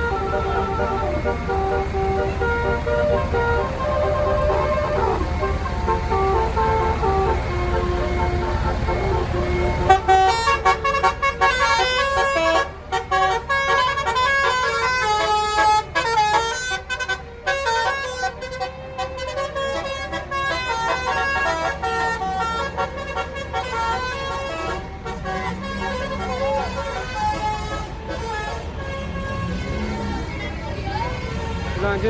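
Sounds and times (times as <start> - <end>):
multi-tone bus horn playing tune: 0.0 - 32.0.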